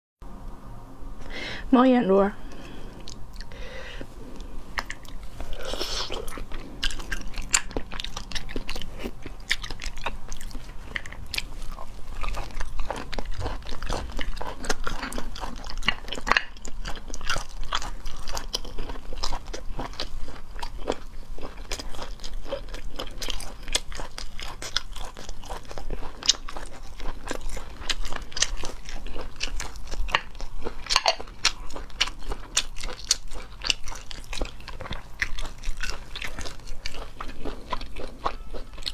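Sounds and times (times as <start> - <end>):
person chewing crunchy food: 2.4 - 38.9.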